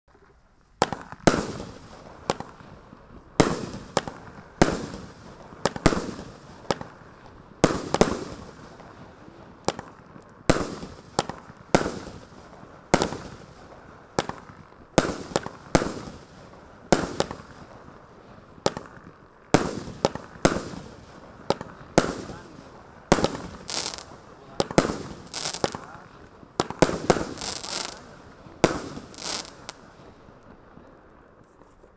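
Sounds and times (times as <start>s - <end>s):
quiet firework pops: 0.1s - 31.9s
firework cake bangs: 0.8s - 2.7s, 3.3s - 17.8s, 18.6s - 30.2s.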